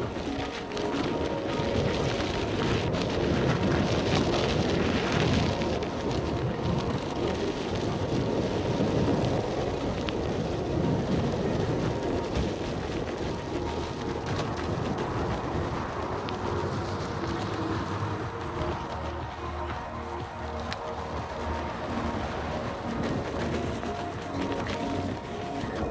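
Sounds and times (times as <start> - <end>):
tyre noise on dirt: 0.0 - 25.9
wind rush on microphone: 0.0 - 25.9.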